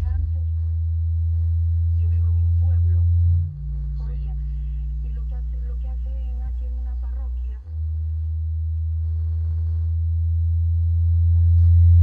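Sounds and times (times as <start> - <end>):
low electronic sine-tone drone: 0.0 - 12.0.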